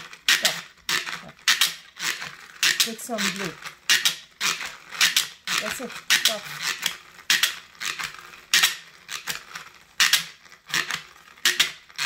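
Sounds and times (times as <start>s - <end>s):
toy spinner rattling whir: 0.0s - 12.0s.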